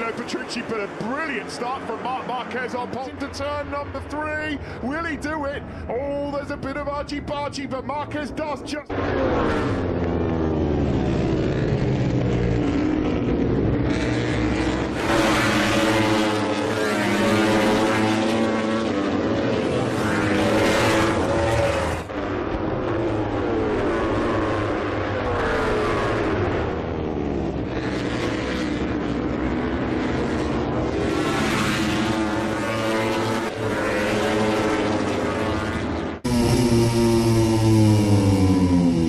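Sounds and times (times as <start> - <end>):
race motorcycle engines revving high: 0.0 - 6.5, 8.9 - 39.0.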